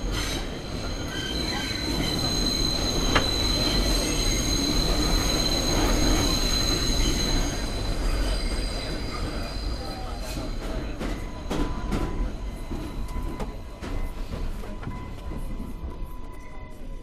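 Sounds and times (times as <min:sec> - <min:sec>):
low rumble of train: 0:00.0 - 0:17.0
train wheels squealing: 0:00.0 - 0:17.0.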